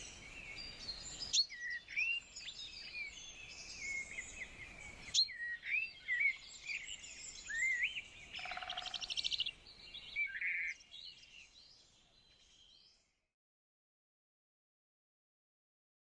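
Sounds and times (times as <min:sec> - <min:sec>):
songbirds singing and calling: 0:00.0 - 0:13.2.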